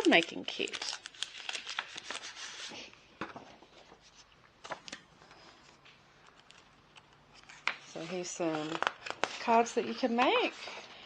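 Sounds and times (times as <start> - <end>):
paper and packaging rustling: 0.0 - 11.0.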